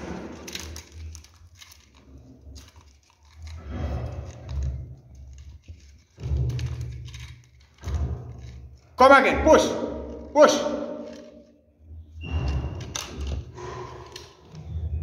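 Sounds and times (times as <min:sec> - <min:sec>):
cables rustling and scraping: 0:00.0 - 0:15.0.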